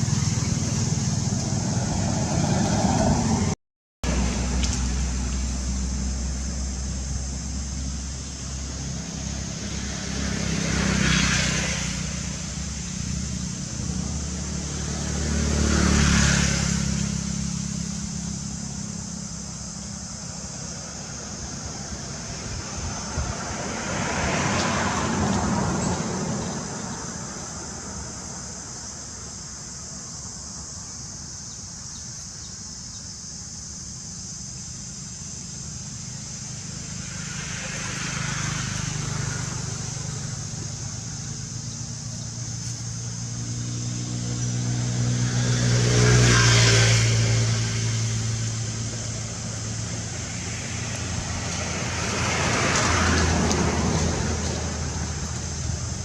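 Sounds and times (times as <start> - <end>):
vehicle passing: 0.0 - 29.4, 34.8 - 56.0
insect chorus drone: 0.0 - 56.0
vehicle engine hum: 0.0 - 56.0.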